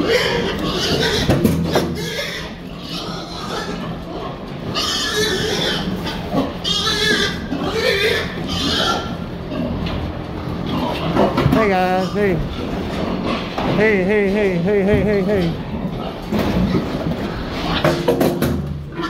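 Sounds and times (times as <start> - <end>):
pigs grunting and squealing: 0.0 - 19.0.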